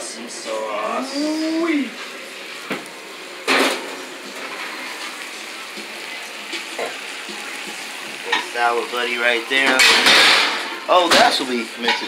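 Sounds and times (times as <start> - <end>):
oil sizzling with frying fish: 0.0 - 12.0.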